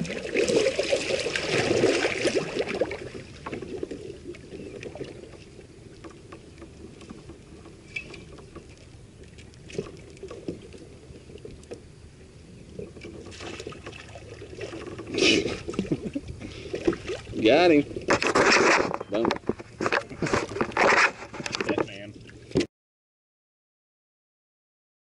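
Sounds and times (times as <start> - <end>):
water lapping against kayak hull: 0.0 - 22.7.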